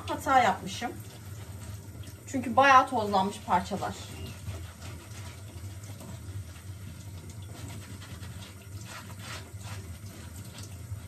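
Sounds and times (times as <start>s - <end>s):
kitchen tap running: 0.0s - 11.0s.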